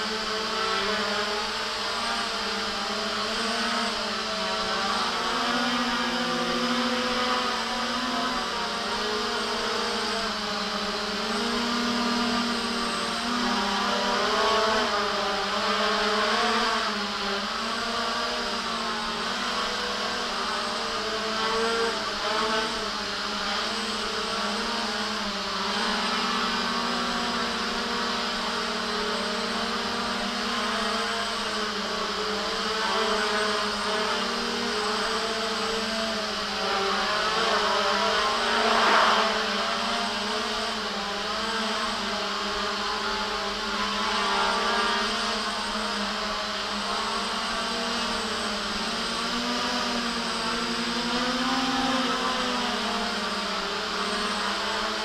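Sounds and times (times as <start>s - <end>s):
drone propellers buzzing: 0.0s - 55.0s.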